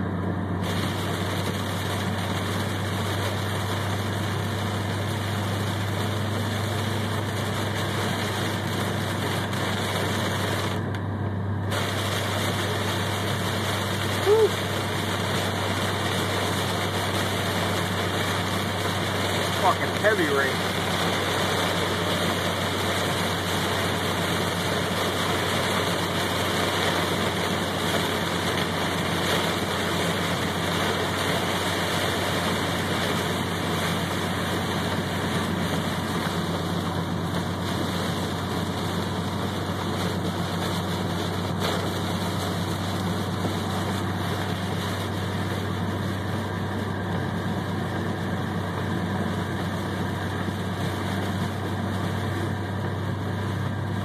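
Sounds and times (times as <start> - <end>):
heavy rain on car windshield: 0.6 - 11.0, 11.6 - 54.0.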